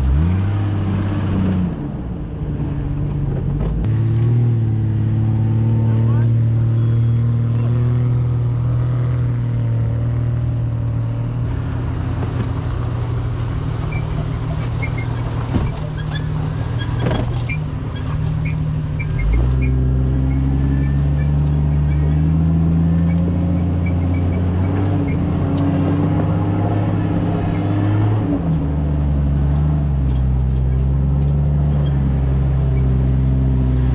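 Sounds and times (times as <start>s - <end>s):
off-road vehicle engine running: 0.0s - 33.9s.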